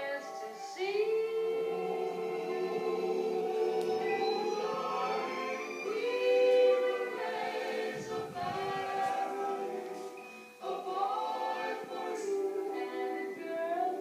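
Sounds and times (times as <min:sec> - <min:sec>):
choral singing: 0:00.0 - 0:14.0.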